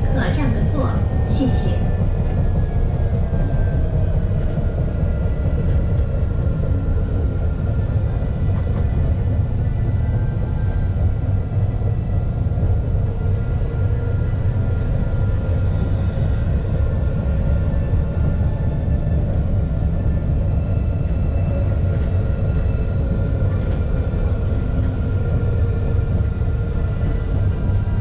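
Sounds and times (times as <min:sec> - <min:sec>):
tram wheels rumbling: 0:00.0 - 0:28.0.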